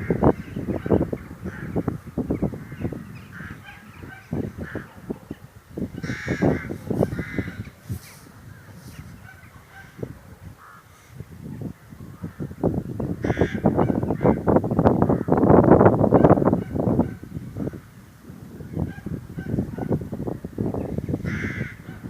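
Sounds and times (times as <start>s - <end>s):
flock of birds calling: 0.0s - 17.9s, 18.5s - 22.0s.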